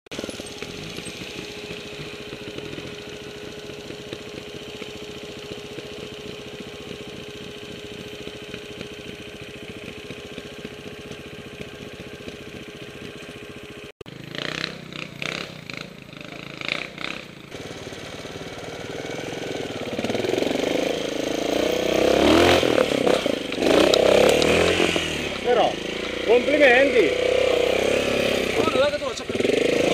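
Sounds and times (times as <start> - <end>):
motorcycle engine running: 0.1 - 29.9.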